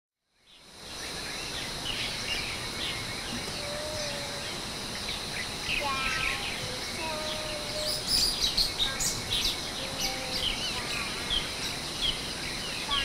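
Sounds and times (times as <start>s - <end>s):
steady background hiss: 0.2s - 13.0s
birds chirping: 0.4s - 13.0s.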